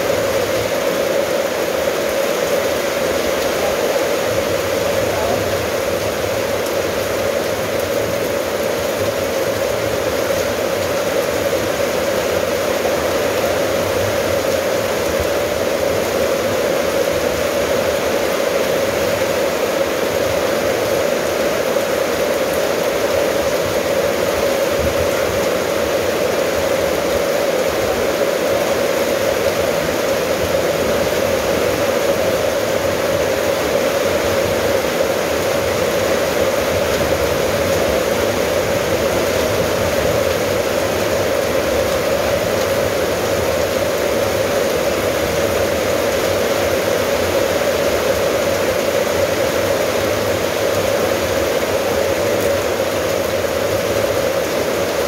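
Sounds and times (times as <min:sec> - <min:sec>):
rain on metal roof: 0:00.0 - 0:55.0.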